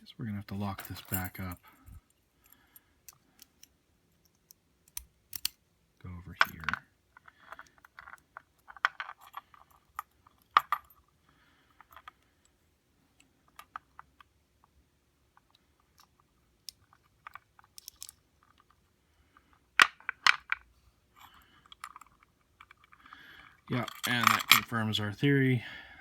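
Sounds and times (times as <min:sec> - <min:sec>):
padlock parts clicking and tapping: 0:00.8 - 0:05.7, 0:06.3 - 0:24.7.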